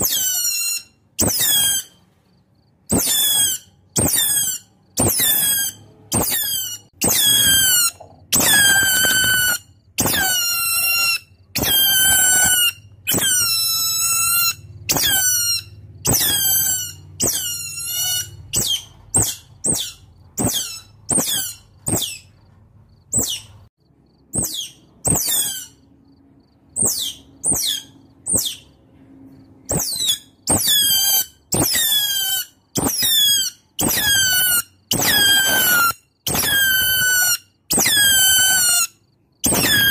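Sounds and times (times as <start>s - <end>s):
otter squeaky calls: 0.0s - 2.0s, 2.9s - 22.4s, 23.1s - 23.6s, 24.3s - 25.9s, 26.7s - 28.8s, 29.7s - 39.9s.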